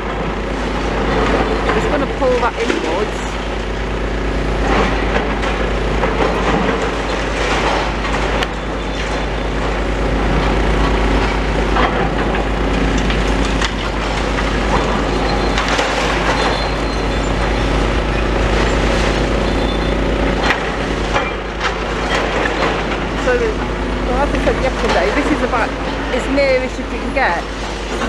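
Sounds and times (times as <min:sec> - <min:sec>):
excavator engine drone: 0:00.0 - 0:28.0
debris crunching and cracking: 0:03.3 - 0:26.1.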